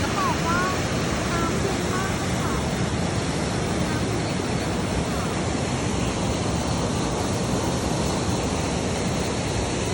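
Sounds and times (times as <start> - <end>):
waterfall roaring: 0.0 - 9.9.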